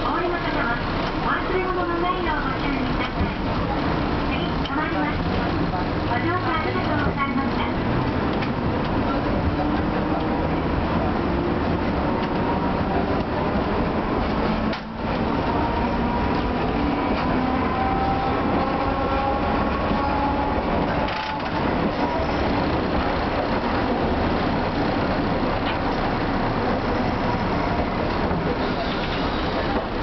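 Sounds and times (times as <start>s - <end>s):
streetcar wheels rumbling on rail: 0.0s - 30.0s.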